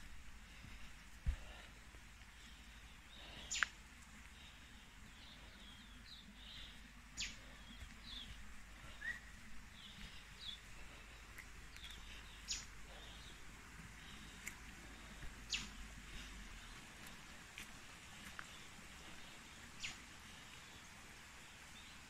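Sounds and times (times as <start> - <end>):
birds chirping: 0.4 - 22.0.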